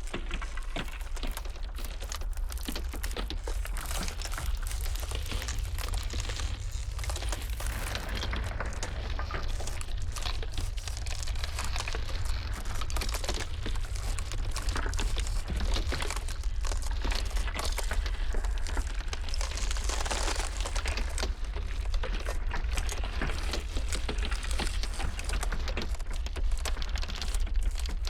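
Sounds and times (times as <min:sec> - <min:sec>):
ice crackling and popping: 0:00.0 - 0:28.0
low rumble: 0:01.3 - 0:25.4.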